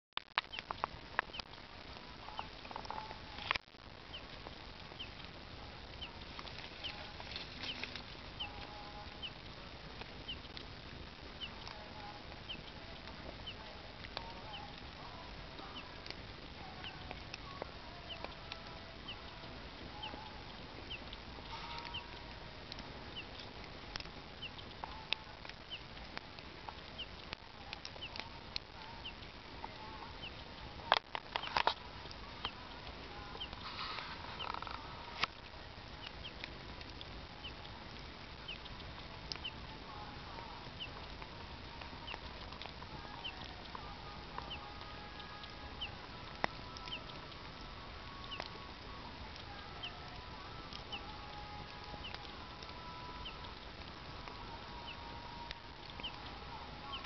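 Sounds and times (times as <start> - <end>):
wood fire crackling and popping: 0.2 - 57.0
faint animal calls: 11.3 - 57.0.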